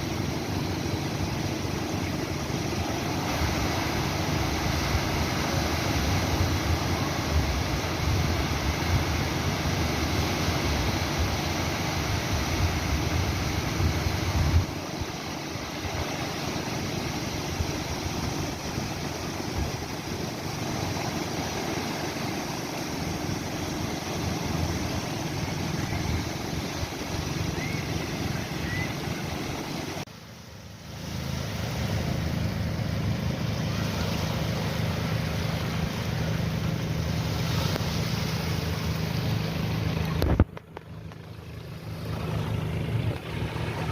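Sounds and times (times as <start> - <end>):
sea waves breaking: 0.0 - 43.9.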